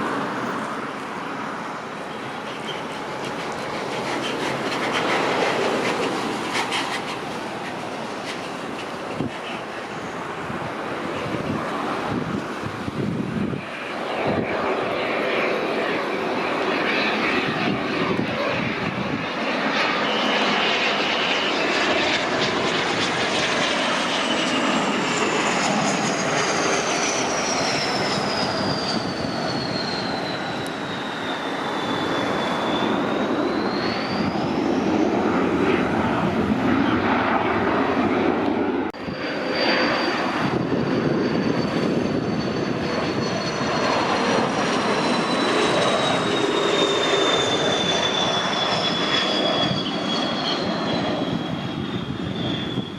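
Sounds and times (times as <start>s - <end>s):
jet engine roar with whine: 0.0s - 52.9s.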